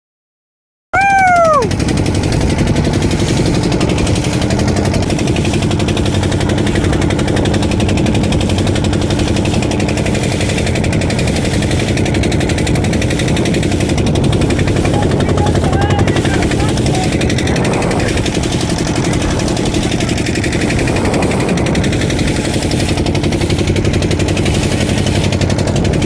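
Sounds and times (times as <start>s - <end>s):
boat engine chugging: 1.0s - 26.0s.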